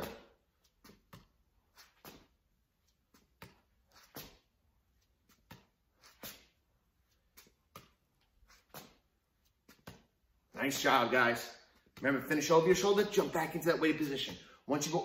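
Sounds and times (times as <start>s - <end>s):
racket swishes: 0.0s - 15.0s.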